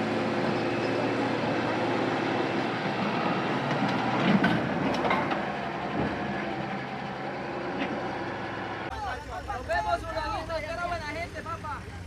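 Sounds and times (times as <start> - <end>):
heavy vehicle running: 0.0 - 12.0.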